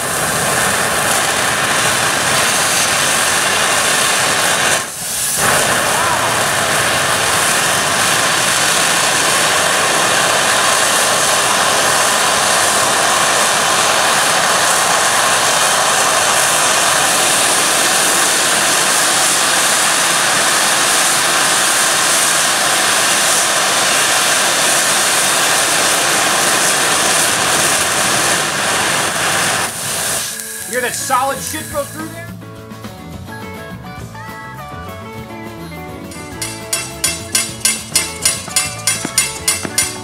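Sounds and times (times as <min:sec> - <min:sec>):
steam blasting from boiler valve: 0:00.0 - 0:32.3, 0:36.3 - 0:40.0.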